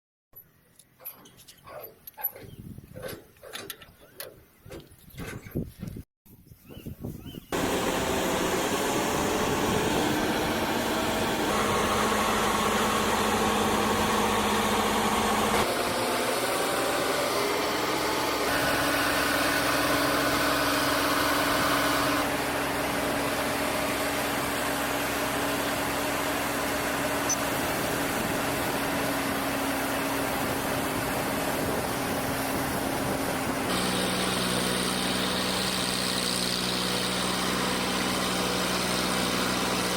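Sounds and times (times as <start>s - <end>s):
harvester engine droning: 7.5s - 39.9s.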